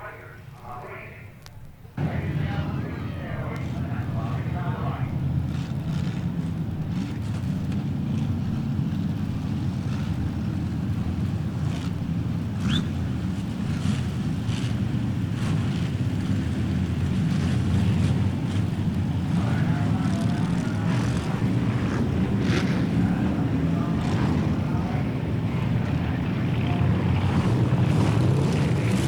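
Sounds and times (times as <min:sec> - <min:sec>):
stock car engines running: 0:02.0 - 0:29.0.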